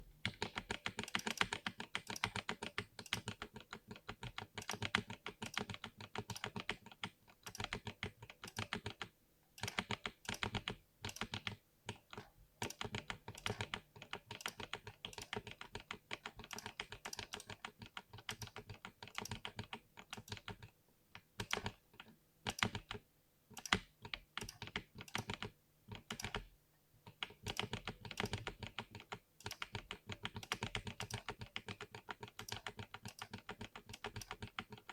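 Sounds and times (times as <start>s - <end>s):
mechanical keyboard keystroke clacks: 0.2s - 20.7s, 21.4s - 23.0s, 23.6s - 26.5s, 27.1s - 34.9s.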